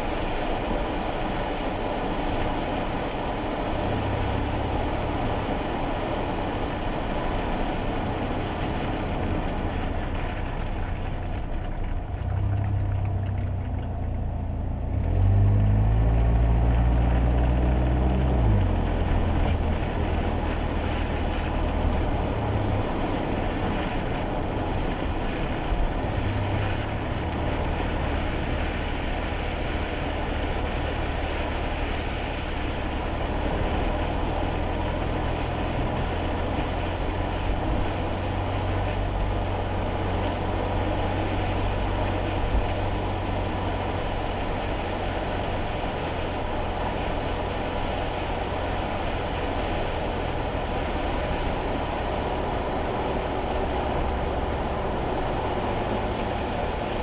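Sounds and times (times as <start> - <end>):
tyres hissing on wet road: 0.0 - 12.0, 15.0 - 57.0
car engine and road rumble: 0.0 - 57.0.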